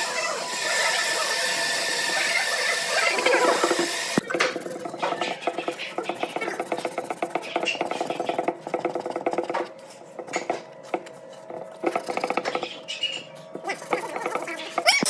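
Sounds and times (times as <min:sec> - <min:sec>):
sandpaper scratching wood: 0:00.1 - 0:12.8, 0:13.6 - 0:15.0.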